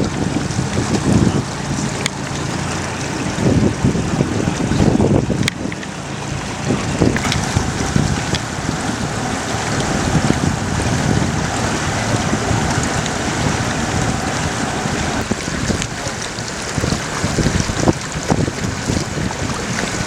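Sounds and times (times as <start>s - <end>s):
outboard boat engines: 0.0s - 20.0s
water rushing past hull: 0.0s - 20.0s
wind buffeting microphone: 0.0s - 20.0s.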